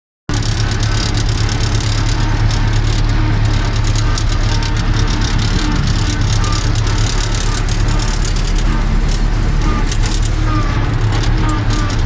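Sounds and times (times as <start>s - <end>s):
tractor diesel engine running: 0.3s - 12.0s.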